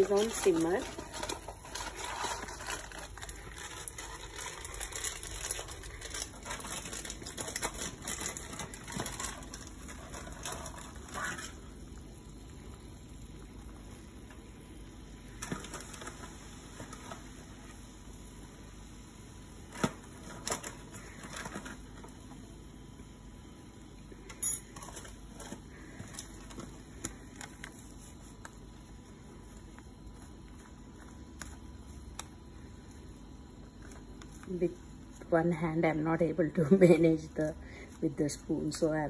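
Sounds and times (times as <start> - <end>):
pot bubbling at a boil: 0.0 - 39.0.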